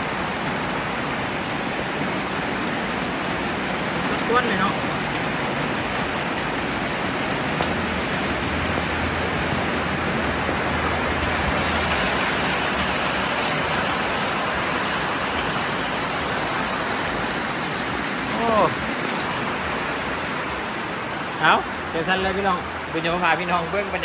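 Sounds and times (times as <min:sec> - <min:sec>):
heavy rain on metal roofs: 0:00.0 - 0:24.0.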